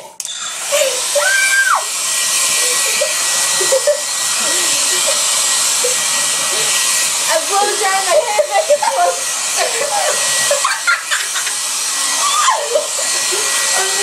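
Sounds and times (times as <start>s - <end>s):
hair dryer running: 0.0s - 14.0s.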